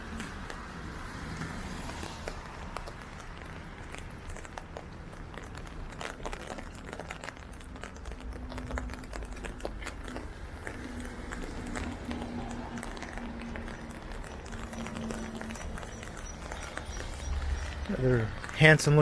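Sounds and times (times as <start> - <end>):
raindrops ticking: 0.0 - 19.0
steady rain: 0.0 - 19.0.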